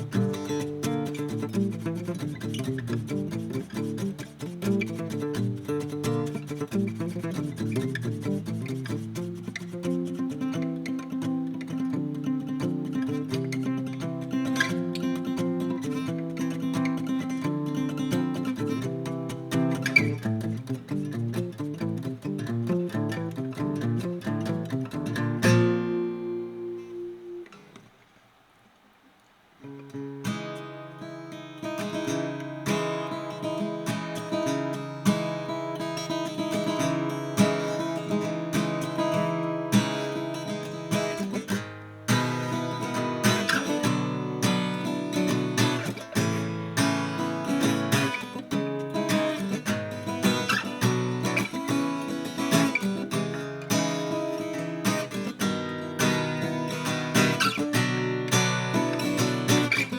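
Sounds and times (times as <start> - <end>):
acoustic guitar strummed chords: 0.0 - 27.9, 29.7 - 59.9.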